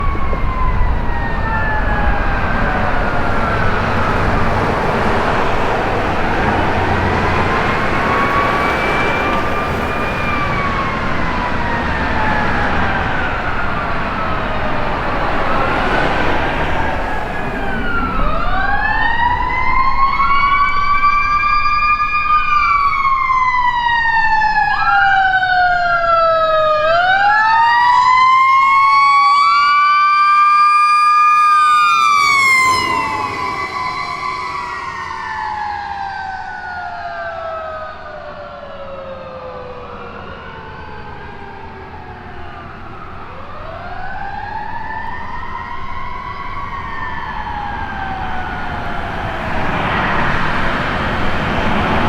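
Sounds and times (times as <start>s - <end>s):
fire truck siren wailing: 0.0s - 52.0s.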